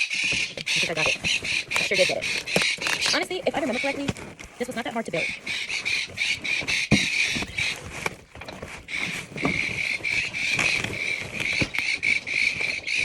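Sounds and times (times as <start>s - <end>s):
cage parts knocking and rustling: 0.0s - 13.0s
parrots chirping harshly: 0.0s - 13.0s.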